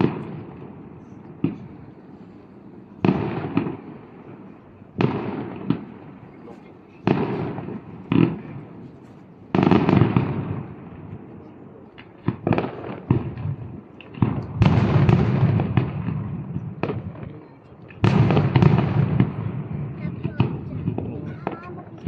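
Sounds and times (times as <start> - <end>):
sharp firework pops: 0.0 - 2.0, 3.0 - 4.4, 5.0 - 6.2, 7.0 - 11.3, 11.9 - 22.0
fireworks bursting with echo: 0.0 - 22.0.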